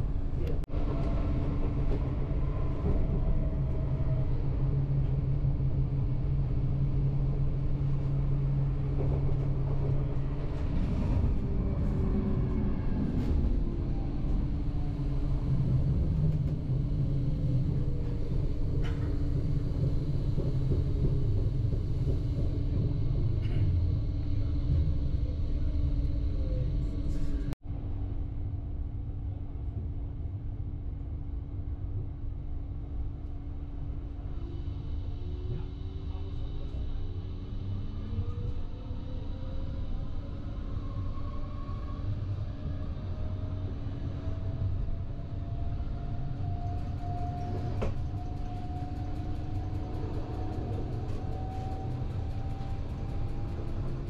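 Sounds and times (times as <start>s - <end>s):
train wheels rumbling on track: 0.0s - 27.5s, 33.7s - 54.0s
constant low hum: 0.0s - 54.0s.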